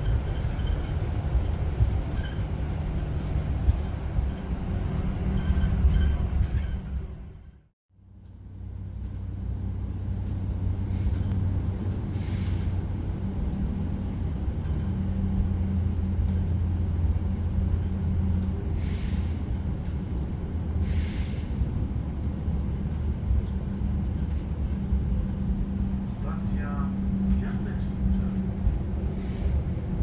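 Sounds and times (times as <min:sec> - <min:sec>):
train hum and rumble: 0:00.0 - 0:30.0.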